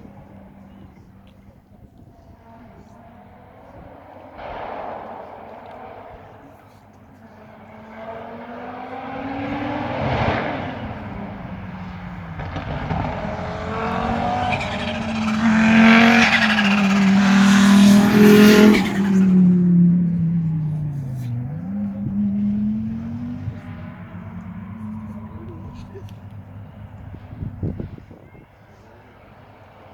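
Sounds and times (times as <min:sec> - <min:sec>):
cars driving past: 0:00.0 - 0:29.9.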